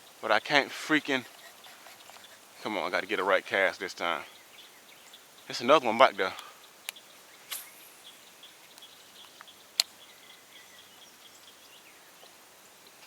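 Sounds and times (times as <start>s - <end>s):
faint high chirping: 1.0s - 13.0s.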